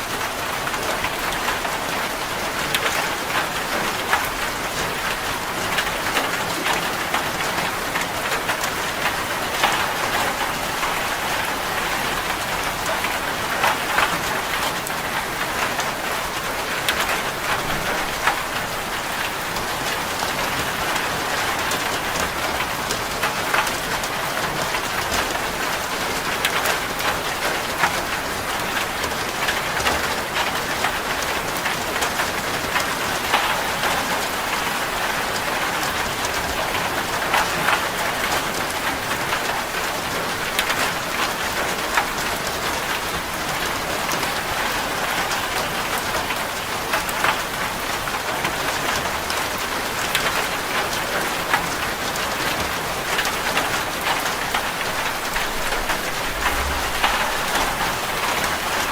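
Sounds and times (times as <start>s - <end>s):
rain on a metal roof: 0.0s - 58.9s.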